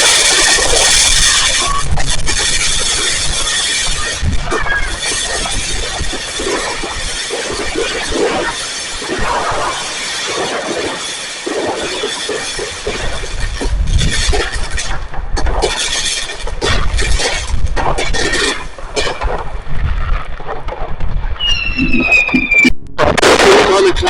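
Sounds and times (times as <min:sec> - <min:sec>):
fireworks crackling: 0:00.0 - 0:19.7.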